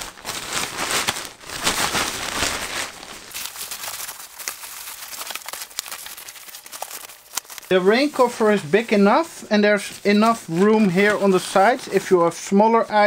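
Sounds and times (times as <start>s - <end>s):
fabric rain cover rustling: 0.0s - 13.0s.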